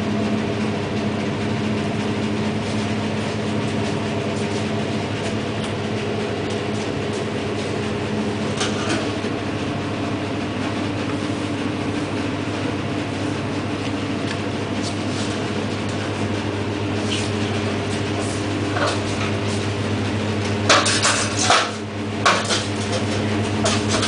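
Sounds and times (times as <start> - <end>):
fan droning: 0.0 - 24.0.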